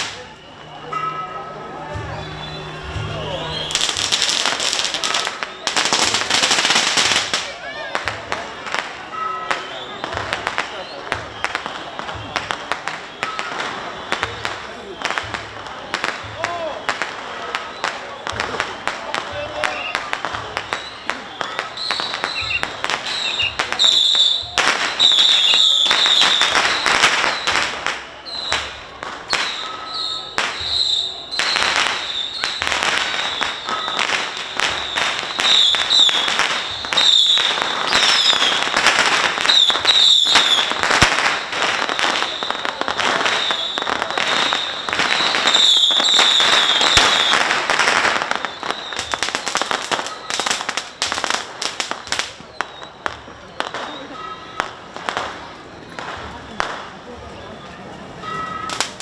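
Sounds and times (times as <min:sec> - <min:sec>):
crowd voices: 0:00.0 - 0:59.0
firecrackers popping: 0:00.0 - 0:59.0.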